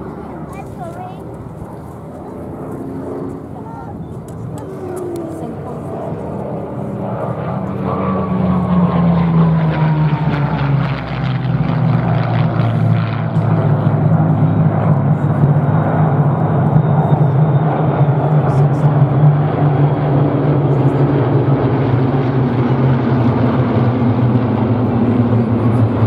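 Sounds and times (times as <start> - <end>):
propeller aircraft formation drone: 0.0 - 26.0
single aircraft passing: 0.0 - 26.0.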